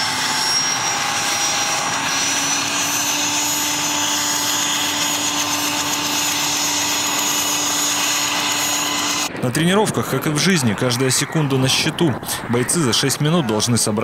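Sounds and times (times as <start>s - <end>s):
helicopter engine and rotor running: 0.0s - 12.5s.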